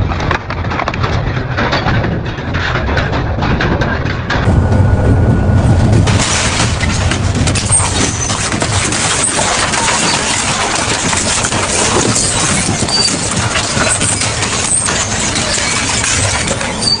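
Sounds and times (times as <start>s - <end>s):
industrial shredder crunching scrap: 0.0s - 17.0s.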